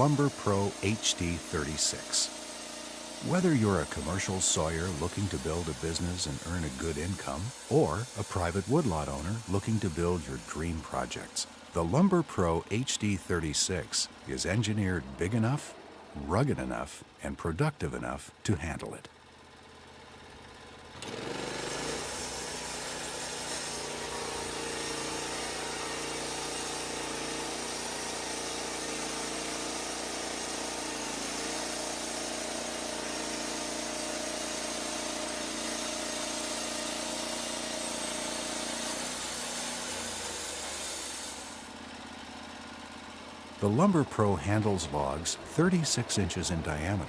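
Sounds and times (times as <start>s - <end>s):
band saw blade cutting log: 0.0s - 16.8s, 21.0s - 42.8s, 43.6s - 47.0s
sawmill engine running: 0.0s - 47.0s.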